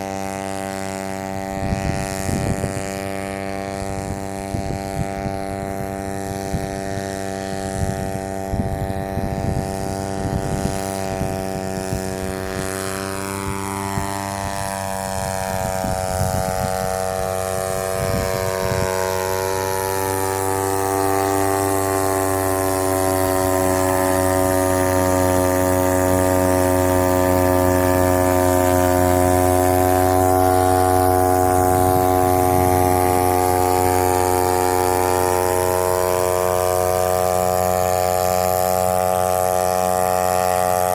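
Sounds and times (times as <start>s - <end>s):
engine crackling: 0.0s - 40.9s
paramotor engine running: 0.0s - 40.9s.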